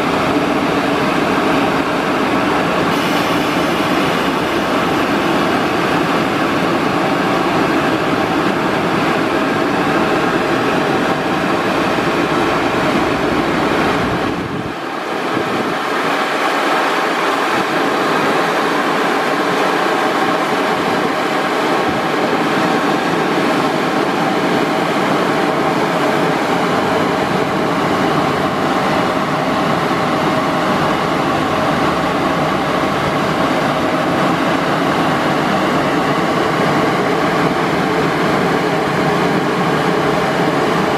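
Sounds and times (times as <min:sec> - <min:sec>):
car wash dryer blowers: 0:00.0 - 0:40.9.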